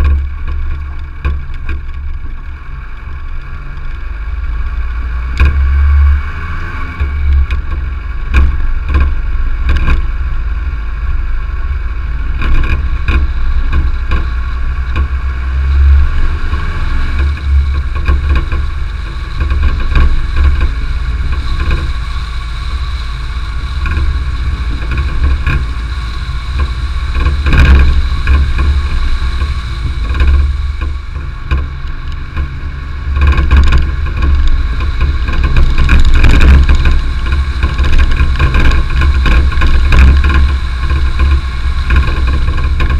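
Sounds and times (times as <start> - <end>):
car engine: 0.0 - 42.9
road rumble: 0.0 - 42.9.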